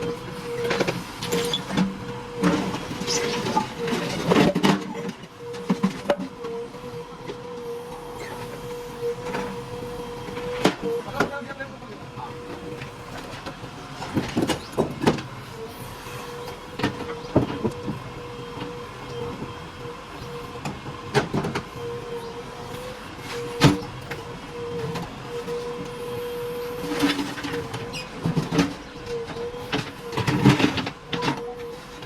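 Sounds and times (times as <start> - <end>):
backhoe loader engine whine: 0.0 - 32.0.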